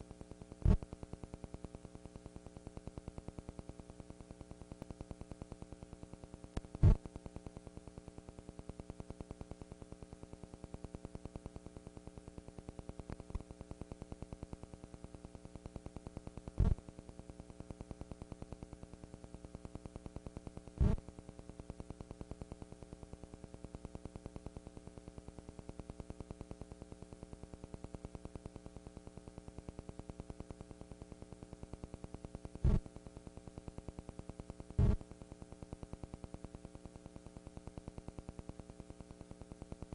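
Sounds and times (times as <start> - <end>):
electrical hum and buzz: 0.0 - 39.9.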